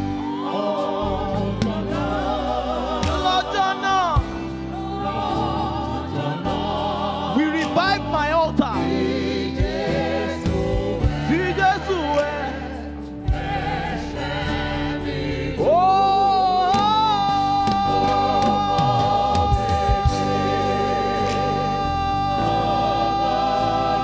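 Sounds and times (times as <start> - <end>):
choir singing gospel music: 0.0 - 24.0.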